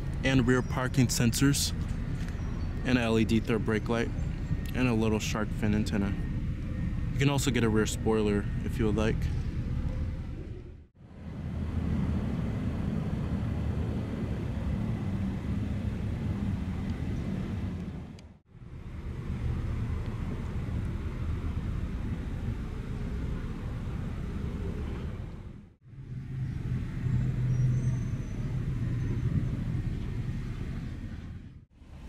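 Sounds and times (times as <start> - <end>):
outdoor vehicle rumble: 0.0 - 32.0.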